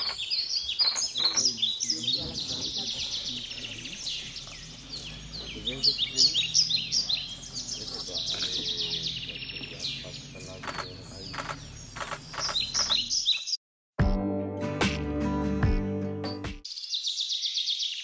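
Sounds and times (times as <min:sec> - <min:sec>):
birds calling and chirping: 0:00.0 - 0:13.6, 0:16.6 - 0:18.0.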